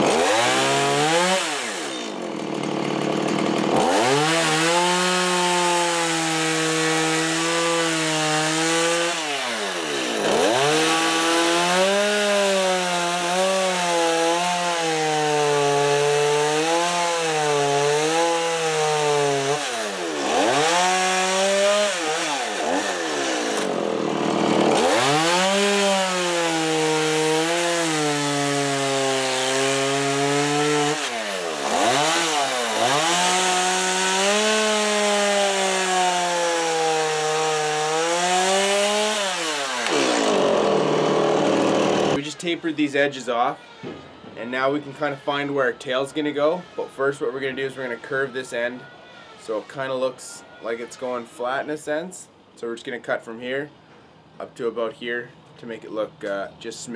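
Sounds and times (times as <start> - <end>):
chainsaw cutting wood: 0.0 - 45.6.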